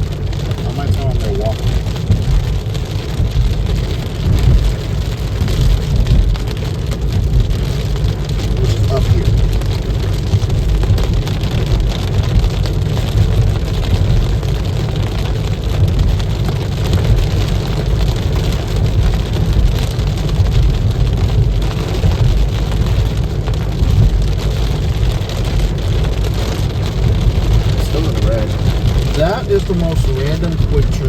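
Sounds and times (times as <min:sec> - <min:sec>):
rain hitting car: 0:00.0 - 0:31.0
road rumble inside car: 0:00.0 - 0:31.0.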